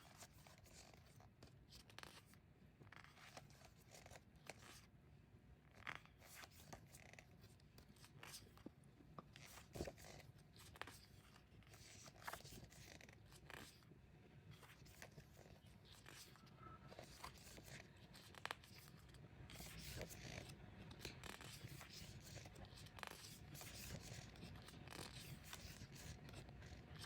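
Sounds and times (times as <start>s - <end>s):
book pages rustling: 0.1s - 4.9s, 5.7s - 13.9s, 14.5s - 27.0s.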